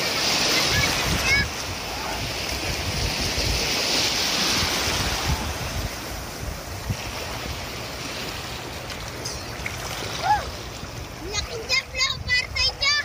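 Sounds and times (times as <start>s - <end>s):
small surf washing in: 0.0s - 13.0s
wind buffeting microphone: 0.0s - 13.0s.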